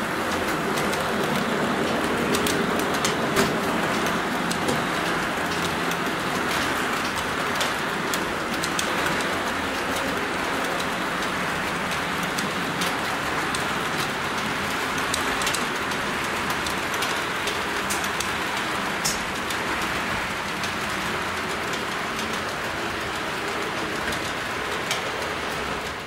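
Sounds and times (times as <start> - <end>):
model train wheels on rails: 0.0 - 26.0.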